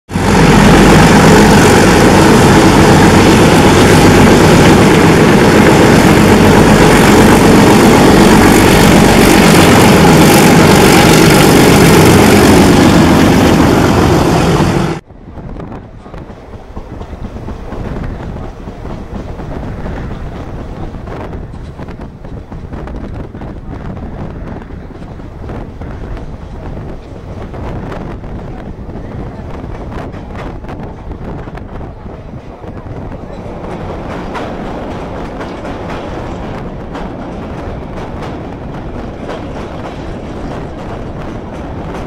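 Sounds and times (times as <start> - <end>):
diesel locomotive engine: 0.1 - 42.0
running train: 0.1 - 42.0
wind rushing: 0.1 - 42.0.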